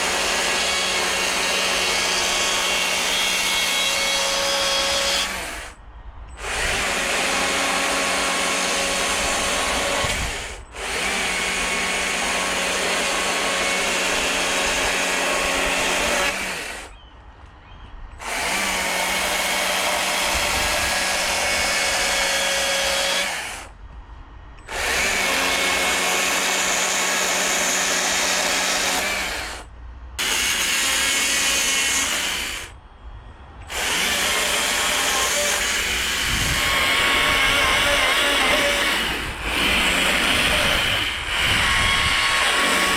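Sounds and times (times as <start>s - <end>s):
power carving tool cutting wood: 0.0s - 5.7s, 6.4s - 16.9s, 18.2s - 23.7s, 24.7s - 29.6s, 30.2s - 32.7s, 33.7s - 42.9s.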